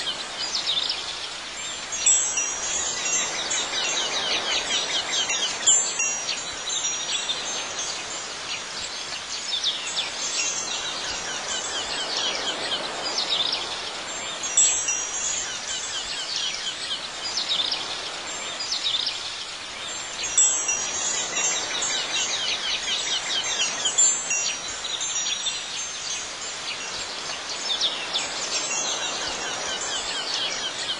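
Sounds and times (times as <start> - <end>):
wind chimes ringing: 0.0 - 30.9.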